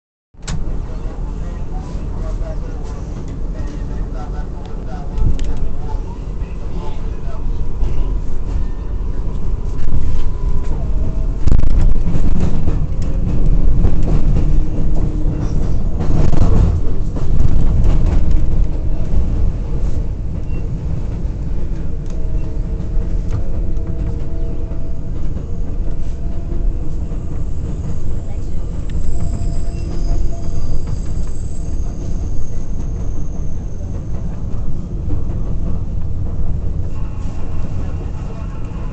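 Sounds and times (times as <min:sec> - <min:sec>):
wheels rumbling on rail: 0:00.3 - 0:38.9
rail clacks: 0:00.4 - 0:38.9.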